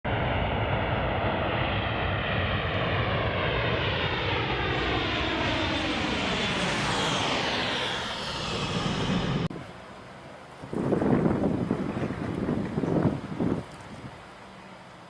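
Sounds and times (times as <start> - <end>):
jet plane passing: 0.1 - 15.0.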